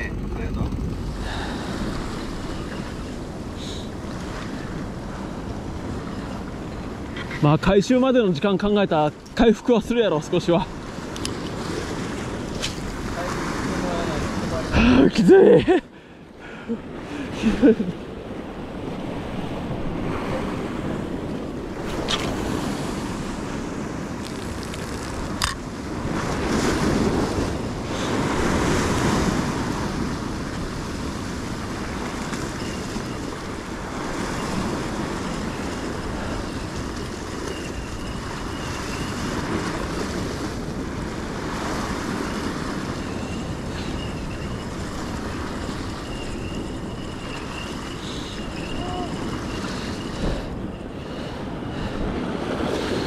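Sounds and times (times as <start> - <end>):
wind buffeting the microphone: 0.0 - 7.7, 16.5 - 53.0
surf on a rocky shore: 0.0 - 53.0.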